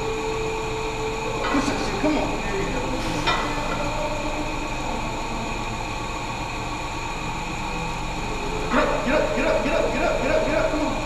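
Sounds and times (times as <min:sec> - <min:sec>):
mechanical hum and hiss: 0:00.0 - 0:11.0.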